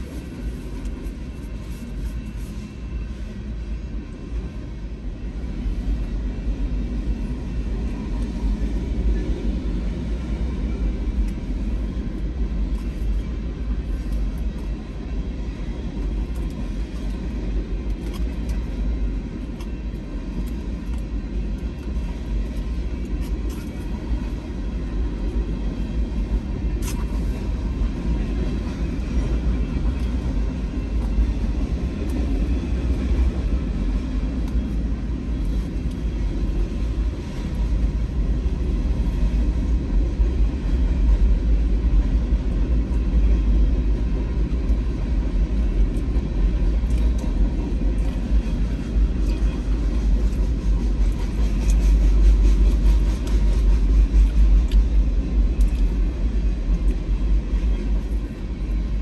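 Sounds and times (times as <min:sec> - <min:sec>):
train rolling past: 0:00.0 - 0:59.0.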